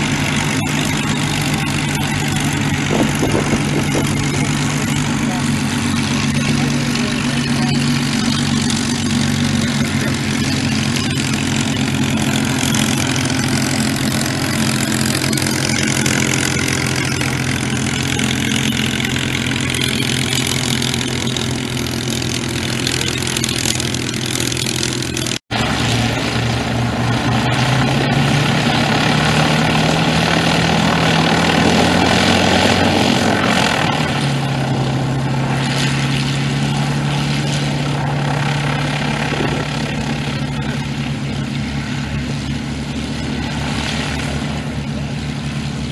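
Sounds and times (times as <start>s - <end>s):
piston aircraft engines droning: 0.0s - 45.9s.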